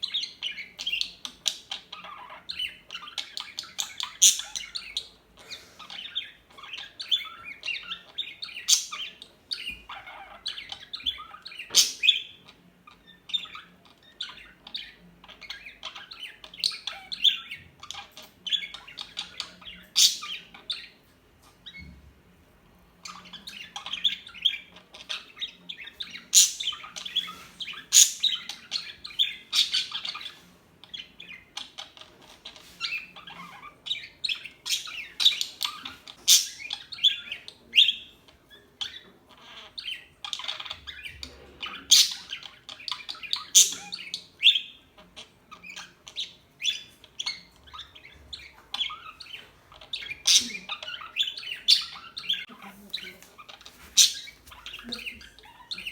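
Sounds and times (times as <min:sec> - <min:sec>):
budgerigars chirping: 0:00.0 - 0:22.0, 0:22.9 - 0:55.9.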